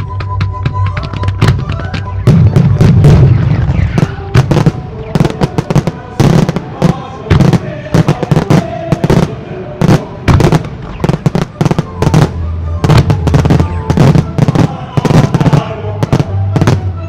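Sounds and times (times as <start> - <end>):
faint music: 0.0 - 17.0
fireworks bursting: 0.1 - 17.0.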